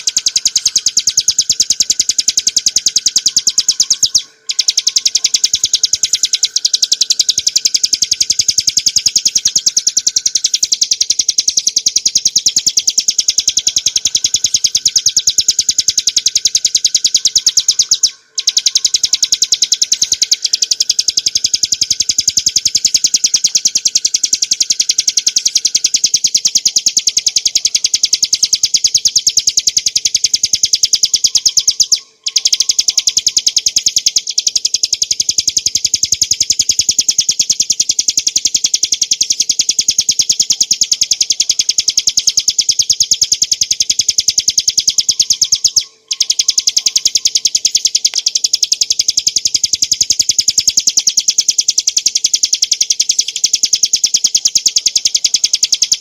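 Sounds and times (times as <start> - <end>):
bird singing high-pitched trill: 0.0 - 56.0.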